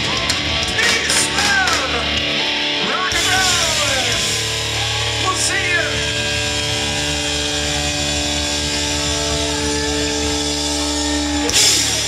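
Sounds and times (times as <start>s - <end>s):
high guitar wails: 0.0s - 12.0s
rock band electric guitars: 0.0s - 12.0s.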